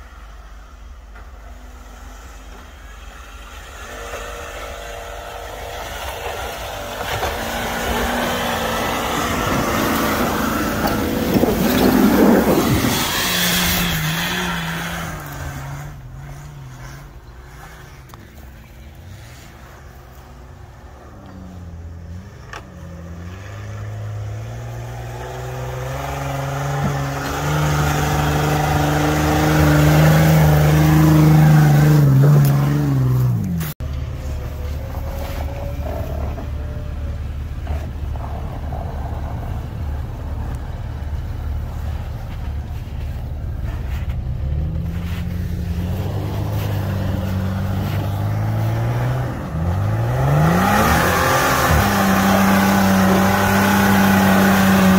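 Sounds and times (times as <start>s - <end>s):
off-road engines revving: 0.0s - 54.9s.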